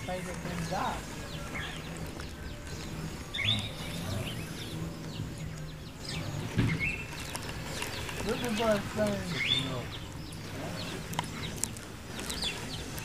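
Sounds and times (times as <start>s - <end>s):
low steady hum: 0.0s - 13.0s
bird chirps sweeping up: 0.6s - 11.6s.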